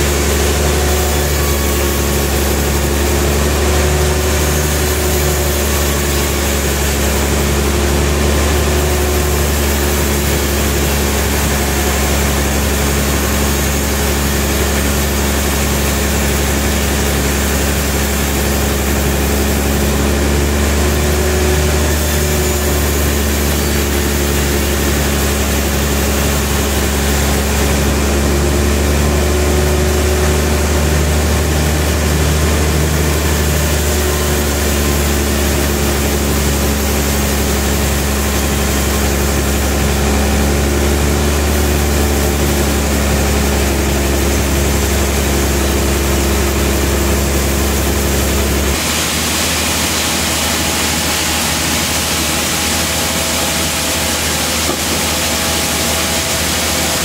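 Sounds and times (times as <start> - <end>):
band sawmill humming: 0.0 - 57.0.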